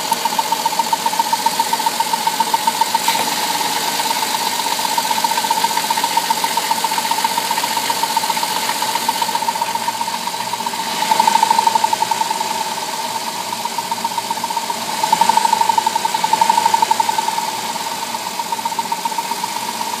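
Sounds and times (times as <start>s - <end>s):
engine running with rapid ticking: 0.0s - 20.0s.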